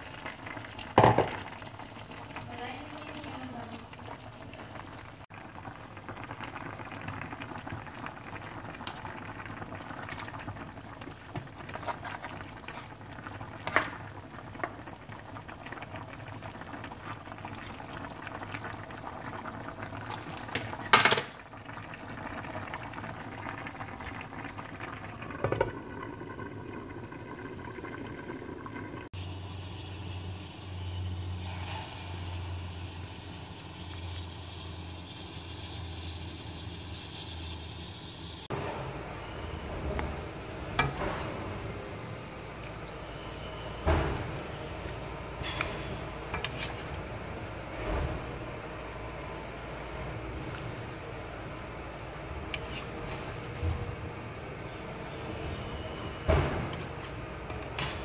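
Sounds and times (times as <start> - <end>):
soup bubbling in a pot: 0.0 - 38.6, 39.2 - 58.0.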